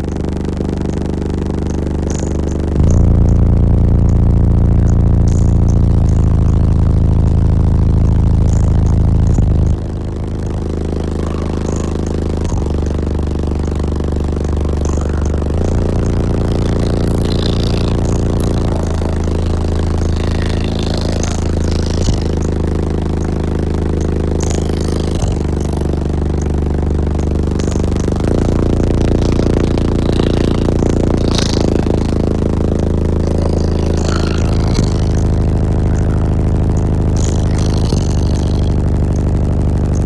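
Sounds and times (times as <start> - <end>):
loud subwoofer bass notes: 0.0 - 40.0.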